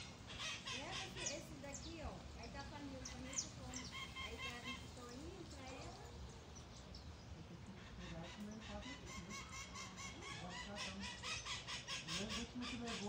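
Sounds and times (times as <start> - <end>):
birds chirping rapidly: 0.0 - 13.0
lower bird calls: 0.0 - 13.0.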